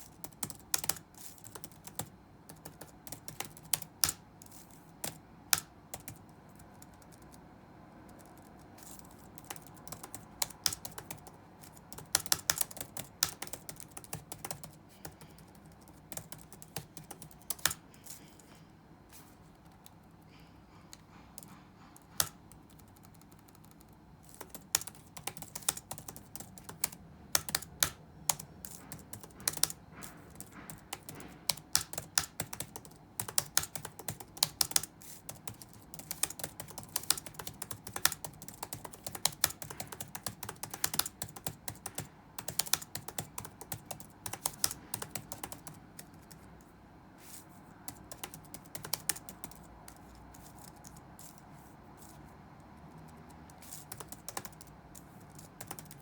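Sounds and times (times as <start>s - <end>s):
typing on computer keyboard: 0.0s - 18.5s, 19.6s - 46.7s, 47.8s - 51.4s, 52.0s - 56.0s.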